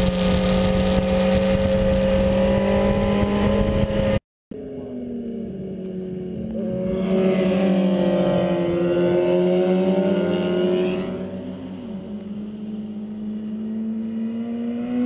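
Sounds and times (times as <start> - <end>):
motorcycle engine passing: 0.0 - 4.2, 4.8 - 15.0
low engine drone: 0.0 - 13.9.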